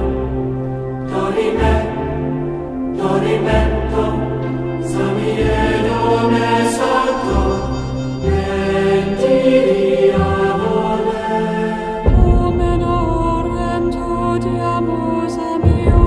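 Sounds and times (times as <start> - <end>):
slow choir chant: 0.0 - 16.0.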